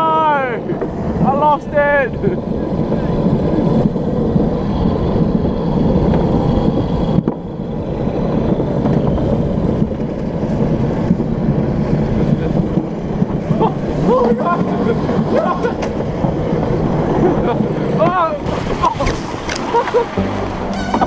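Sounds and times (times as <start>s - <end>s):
wheels rumbling on concrete: 0.0s - 21.0s
wind buffeting microphone: 0.0s - 21.0s.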